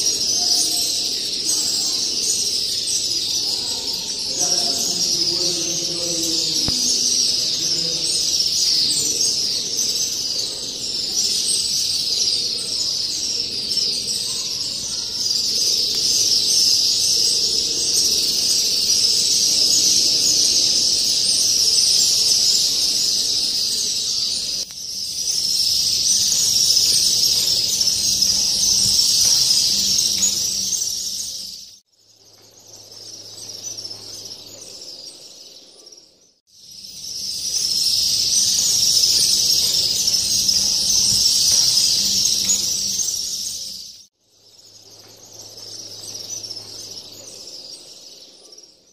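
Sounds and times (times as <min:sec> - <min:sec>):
swallows twittering and chirping: 0:00.0 - 0:48.9.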